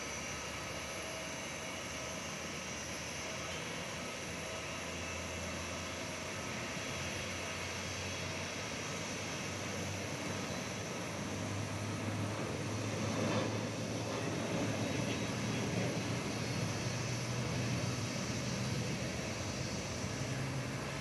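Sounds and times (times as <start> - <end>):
jet engines running at low power: 0.0 - 21.0.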